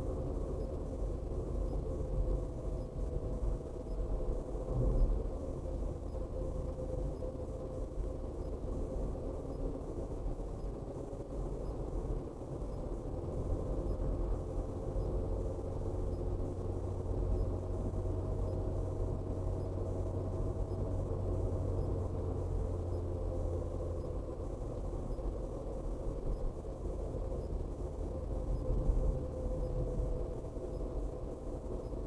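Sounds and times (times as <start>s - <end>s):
car engine and tyre hum: 0.0s - 32.0s.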